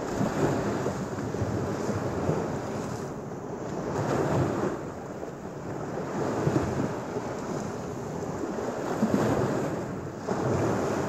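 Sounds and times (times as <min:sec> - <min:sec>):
waves washing onto beach: 0:00.0 - 0:11.0
wind buffeting microphone: 0:00.0 - 0:11.0.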